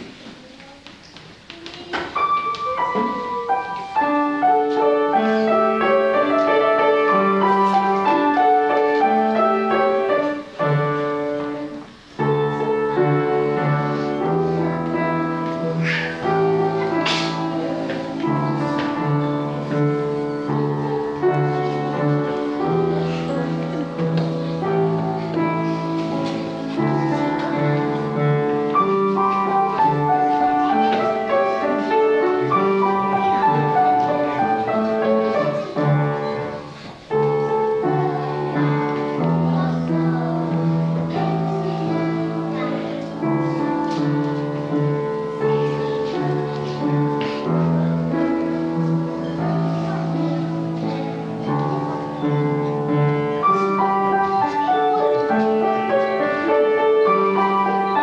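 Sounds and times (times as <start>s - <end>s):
instrumental piano music: 1.5s - 58.0s.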